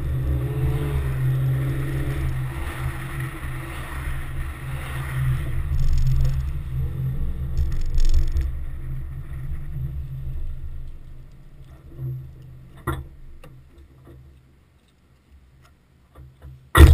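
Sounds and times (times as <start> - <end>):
car rolling low rumble: 0.0 - 16.0.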